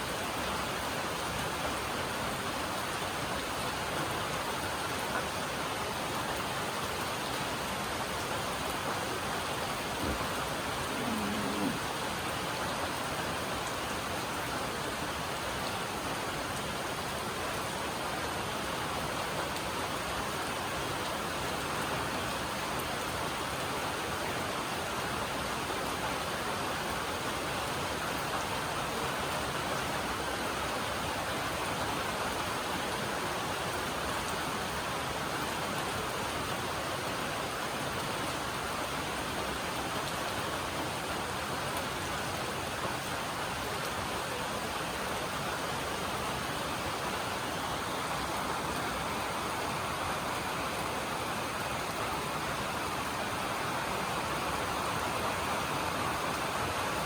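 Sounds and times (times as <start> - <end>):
rain on a metal roof: 0.0 - 57.0.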